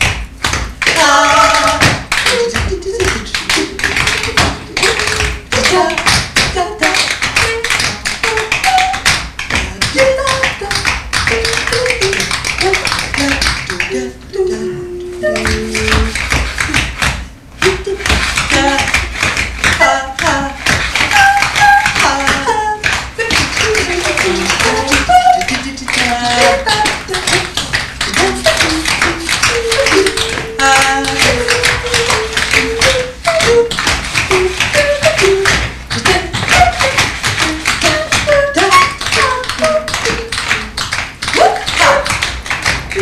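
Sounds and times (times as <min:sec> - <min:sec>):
tap shoes on wooden floor: 0:00.0 - 0:14.0, 0:15.2 - 0:43.0.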